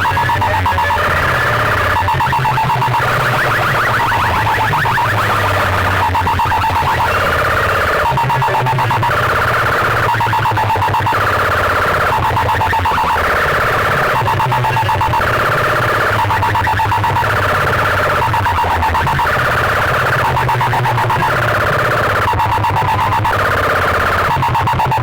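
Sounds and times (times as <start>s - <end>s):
alarm-like synth tone: 0.0s - 25.0s
pulsing bass: 0.0s - 25.0s.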